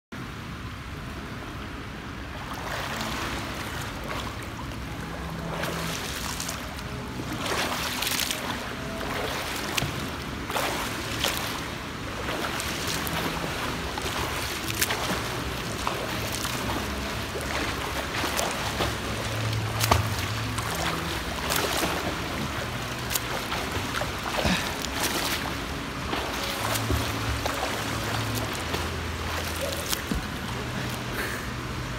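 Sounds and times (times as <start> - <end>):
water sloshing: 2.1 - 31.9
swimmer's arm strokes splashing: 2.4 - 31.3.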